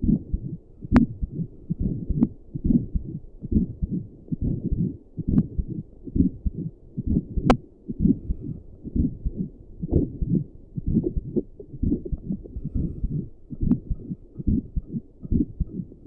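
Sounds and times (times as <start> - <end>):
heartbeat pulsing: 0.0 - 16.0.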